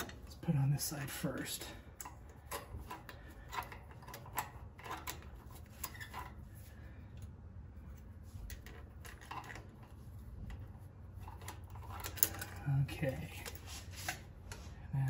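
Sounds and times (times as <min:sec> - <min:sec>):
metallic clicks and scrapes: 0:01.2 - 0:07.3, 0:07.9 - 0:14.8.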